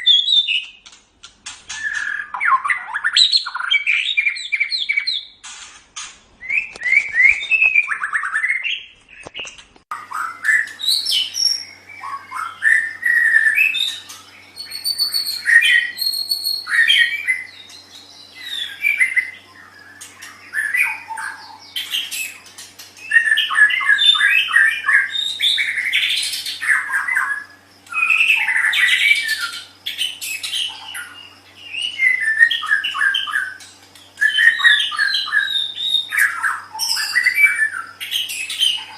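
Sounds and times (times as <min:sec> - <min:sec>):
songbird singing whistles: 0:00.0 - 0:00.8, 0:01.7 - 0:05.4, 0:06.4 - 0:22.4, 0:23.0 - 0:33.6, 0:34.2 - 0:38.9.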